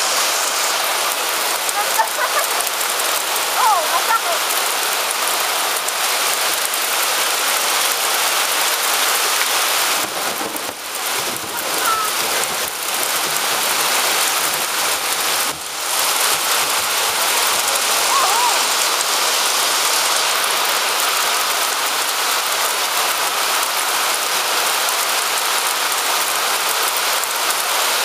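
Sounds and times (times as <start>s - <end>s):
hail pelting down: 0.0s - 28.0s.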